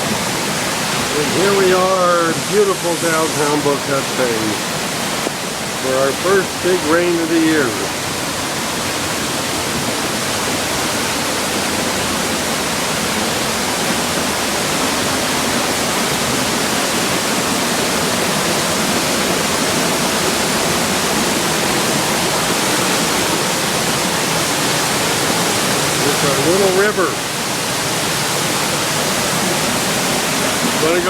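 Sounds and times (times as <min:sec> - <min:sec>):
heavy rain: 0:00.0 - 0:31.0
rushing stream: 0:00.0 - 0:31.0.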